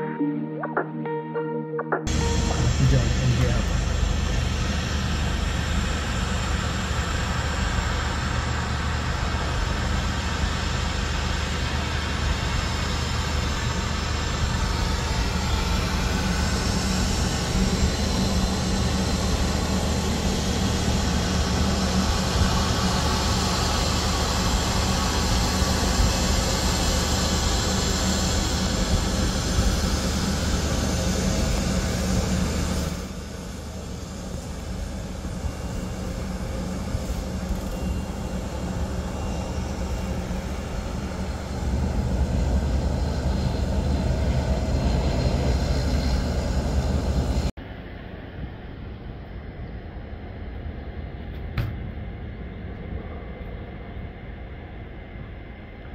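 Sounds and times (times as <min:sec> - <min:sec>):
jet engines whining: 0:00.0 - 0:47.5.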